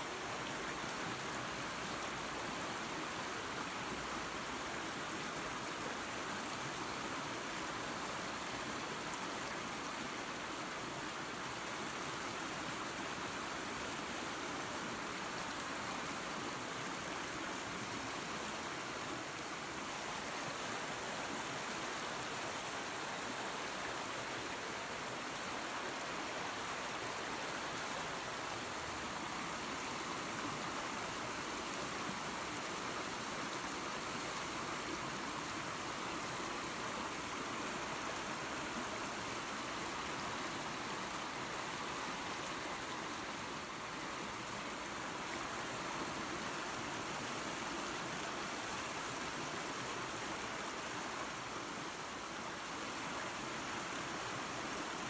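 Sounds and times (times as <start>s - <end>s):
waterfall and creek water: 0.0s - 55.0s.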